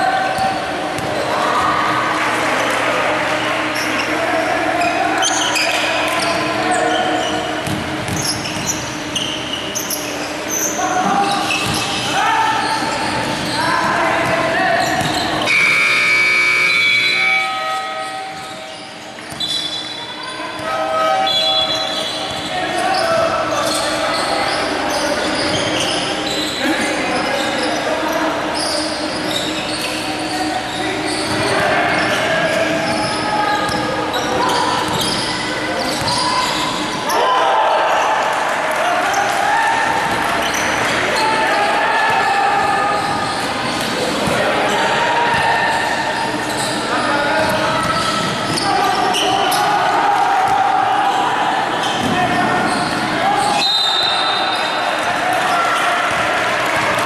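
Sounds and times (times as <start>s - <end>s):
sneakers squeaking: 0.0s - 2.2s, 3.2s - 38.3s, 38.9s - 57.0s
voices echoing in gym: 0.0s - 57.0s.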